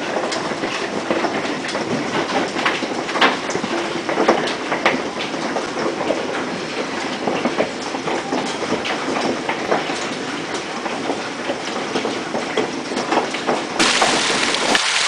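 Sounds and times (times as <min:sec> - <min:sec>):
hail clattering on house: 0:00.0 - 0:15.0.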